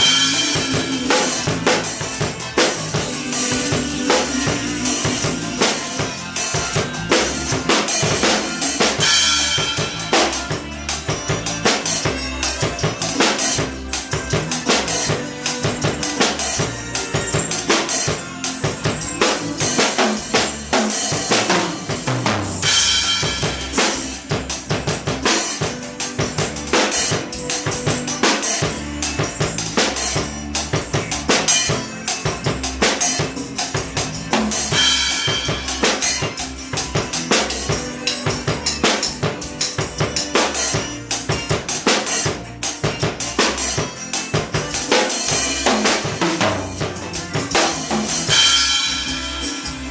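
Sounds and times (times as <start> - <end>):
drum kit groove: 0.0 - 49.9.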